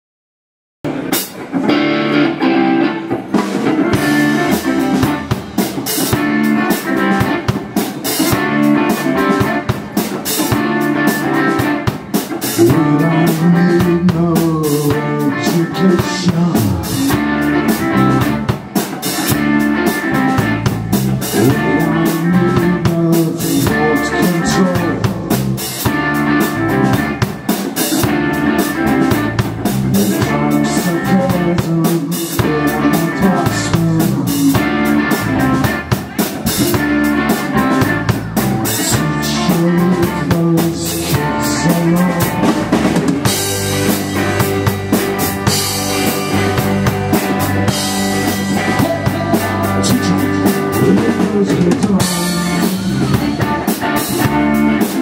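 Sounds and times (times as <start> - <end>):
live rock band playing: 0.8 - 55.0.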